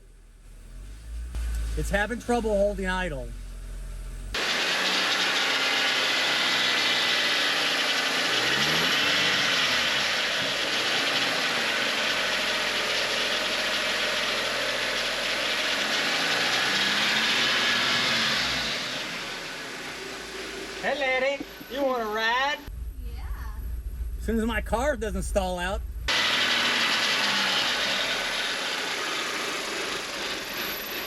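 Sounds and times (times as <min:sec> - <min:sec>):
car engine idling roughly: 0:00.0 - 0:22.0, 0:26.1 - 0:31.0.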